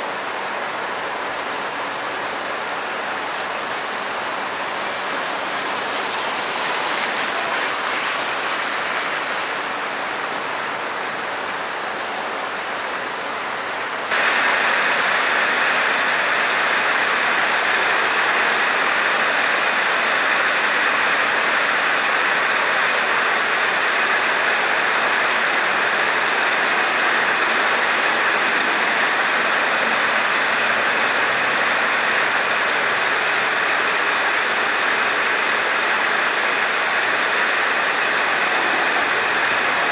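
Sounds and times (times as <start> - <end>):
heavy downpour on asphalt: 0.0 - 39.9
rain on wet pavement: 0.0 - 39.9.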